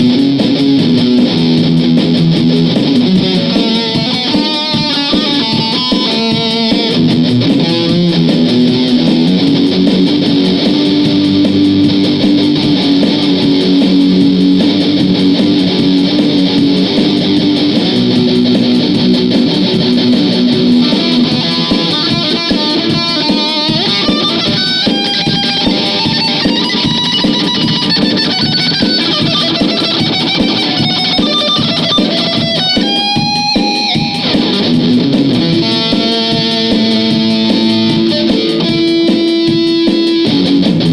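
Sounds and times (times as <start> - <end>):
guitar riffs and licks: 0.0 - 40.9.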